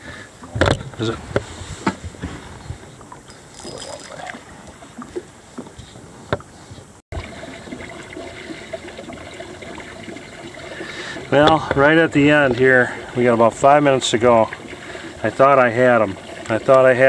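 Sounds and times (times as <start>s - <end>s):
wind: 0.0s - 17.0s
water lapping against boat hull: 0.4s - 17.0s.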